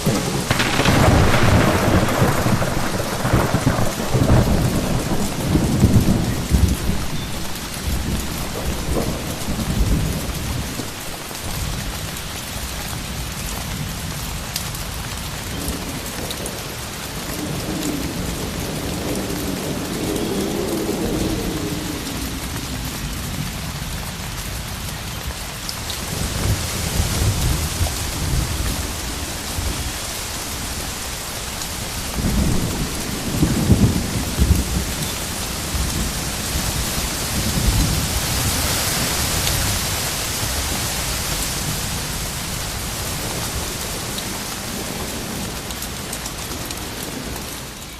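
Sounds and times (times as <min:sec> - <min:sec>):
rain hissing: 0:00.0 - 0:47.9
wind: 0:00.0 - 0:47.9.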